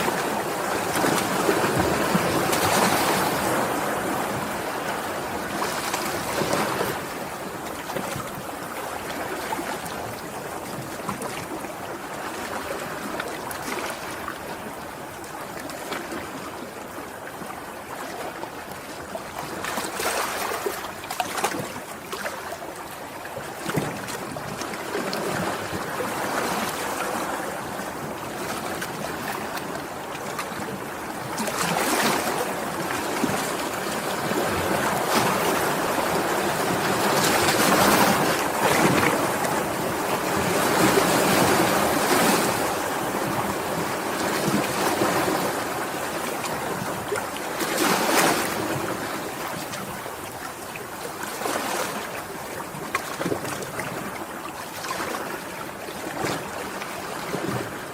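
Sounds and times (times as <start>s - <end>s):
sea waves breaking: 0.0s - 57.9s
wave splashes: 0.0s - 57.9s.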